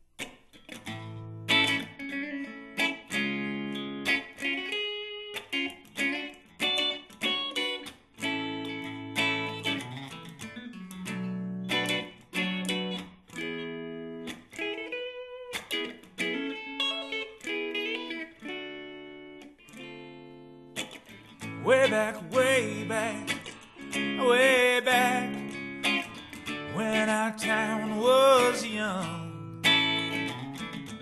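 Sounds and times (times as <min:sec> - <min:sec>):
guitar chords strummed: 0:00.0 - 0:31.0.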